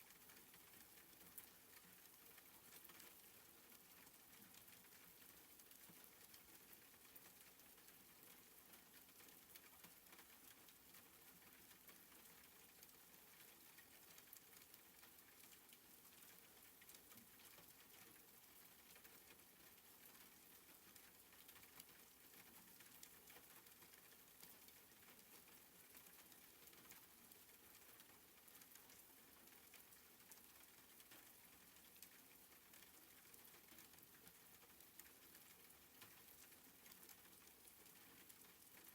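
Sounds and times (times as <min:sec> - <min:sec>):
soft rain pattering: 0:00.0 - 0:38.9.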